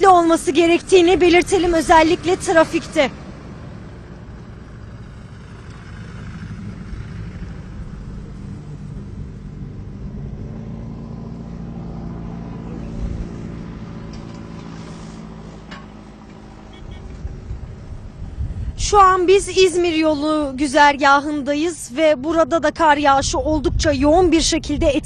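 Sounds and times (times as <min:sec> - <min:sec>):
vehicle engines humming: 0:00.0 - 0:25.0.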